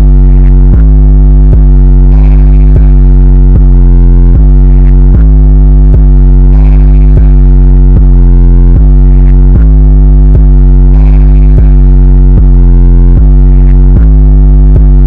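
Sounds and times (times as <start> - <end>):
distorted bass-heavy synth music: 0.0 - 15.0.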